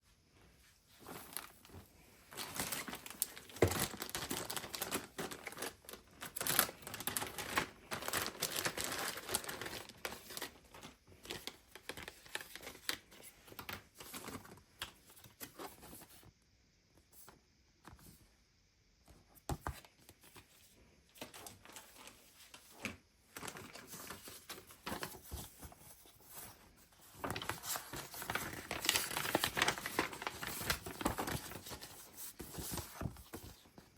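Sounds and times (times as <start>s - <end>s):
crinkling and rustling handling noise: 0.2s - 16.3s, 19.1s - 33.9s.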